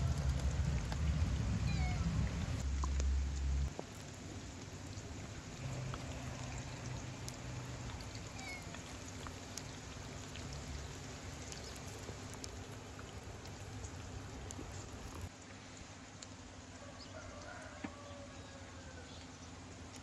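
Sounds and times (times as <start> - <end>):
charcoal fire hissing and crackling: 0.0 - 16.5.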